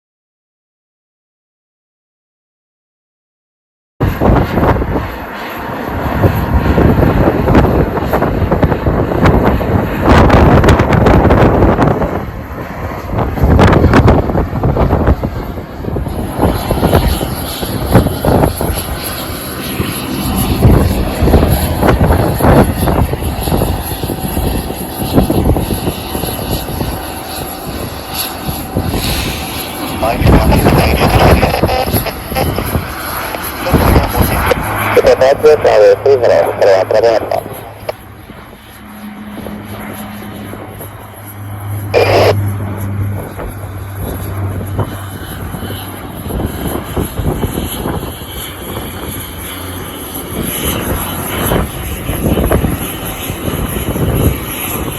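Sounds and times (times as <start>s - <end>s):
wind buffeting microphone: 4.0s - 35.6s, 36.3s - 54.9s
airliner engines running: 4.0s - 54.9s.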